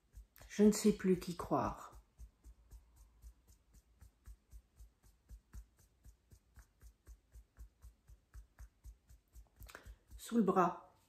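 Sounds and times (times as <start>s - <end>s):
fingertips tapping on collarbone: 0.0s - 10.7s.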